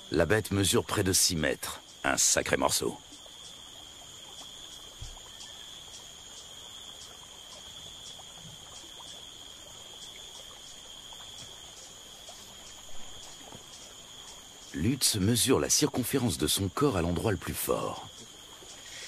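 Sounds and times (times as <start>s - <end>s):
faint hiss: 0.0s - 19.0s
higher pulsing insect call: 0.0s - 19.0s
insect trilling: 0.0s - 19.0s.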